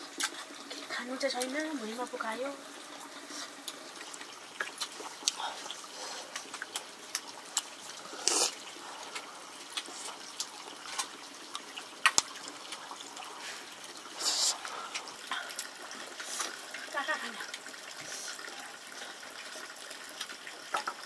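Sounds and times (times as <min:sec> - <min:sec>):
water splashing and trickling: 0:00.0 - 0:21.0.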